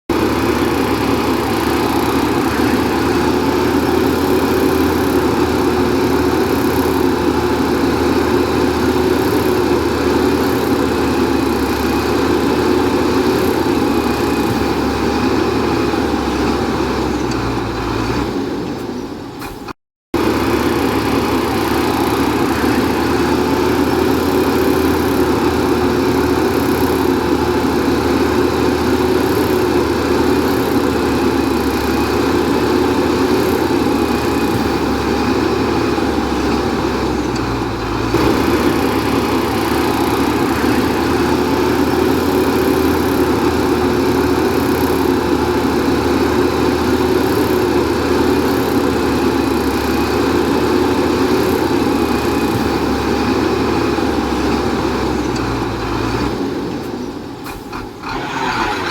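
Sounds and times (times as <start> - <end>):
bulldozer diesel engine rumbling: 0.1 - 58.9.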